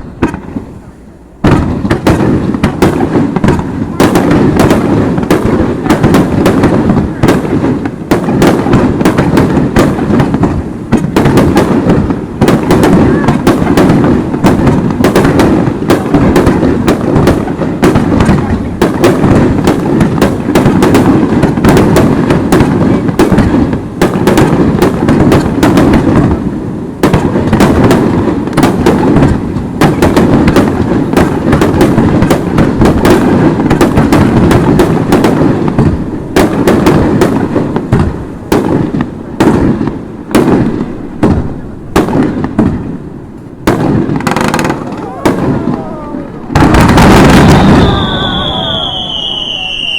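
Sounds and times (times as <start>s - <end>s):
fireworks cracks and booms: 0.0s - 49.9s.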